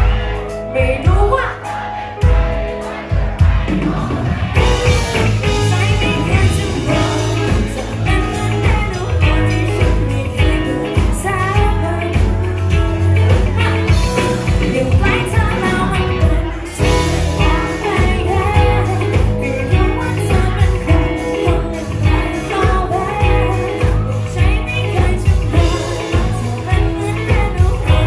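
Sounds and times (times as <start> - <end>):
band playing pop-rock song: 0.0 - 28.0
drums steady beat: 0.0 - 28.0
woman singing: 0.0 - 28.0.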